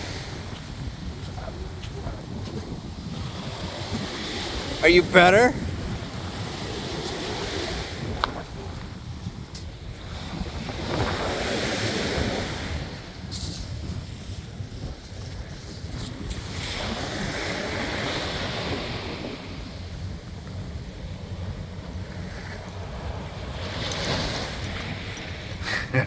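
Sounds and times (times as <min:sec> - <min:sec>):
ocean surf washing on beach: 0:00.0 - 0:26.0
wind buffeting microphone: 0:00.0 - 0:26.0.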